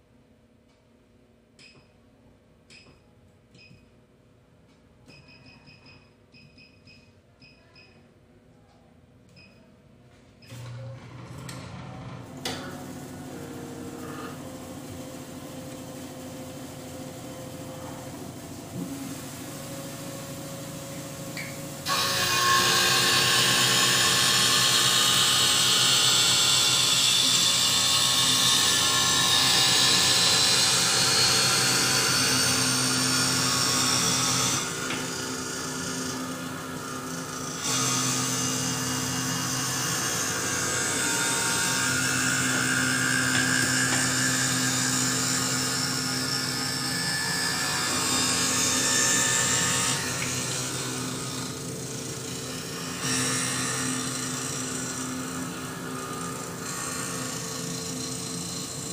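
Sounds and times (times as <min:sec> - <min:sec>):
motor hum: 0:10.4 - 0:58.9.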